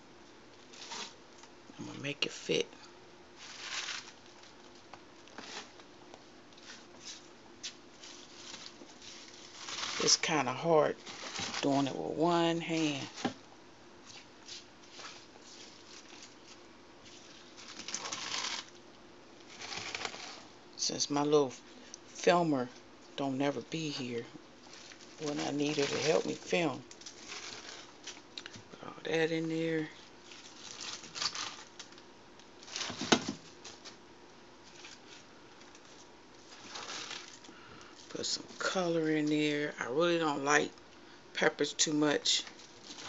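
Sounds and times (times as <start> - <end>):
leafy greens rustling and crackling: 0.6 - 2.0, 3.3 - 5.9, 6.5 - 13.4, 14.0 - 22.5, 23.1 - 40.5, 41.6 - 43.0.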